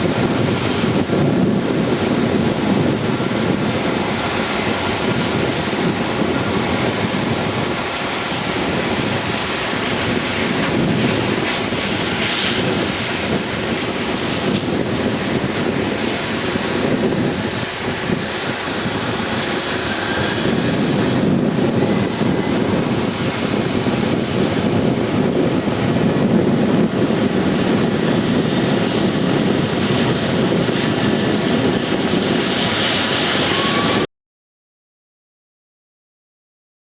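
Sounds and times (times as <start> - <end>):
jet engines running loud: 0.0 - 34.1.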